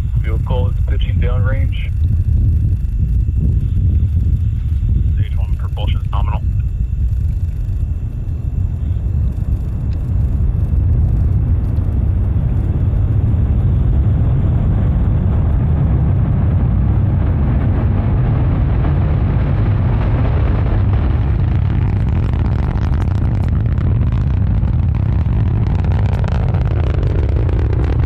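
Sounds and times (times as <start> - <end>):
rocket engines rumbling: 0.0 - 28.0.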